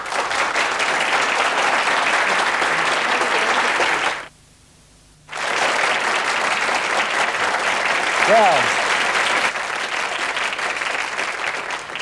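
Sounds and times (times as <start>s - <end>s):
audience applauding: 0.0s - 4.3s, 5.3s - 12.0s.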